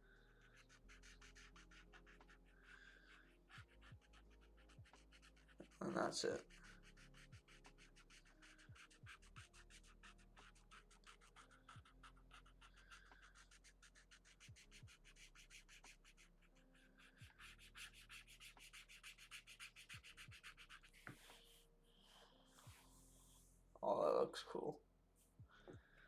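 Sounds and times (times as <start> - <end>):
pen scratching on paper: 0.0 - 21.6.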